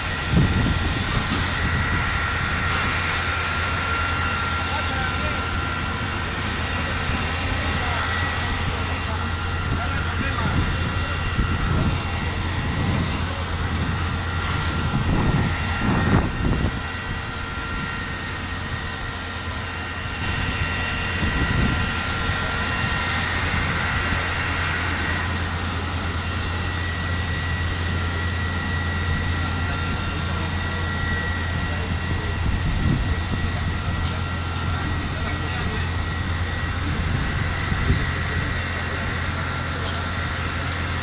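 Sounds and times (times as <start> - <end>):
high whine: 0.0 - 41.0
large engine droning: 0.0 - 41.0.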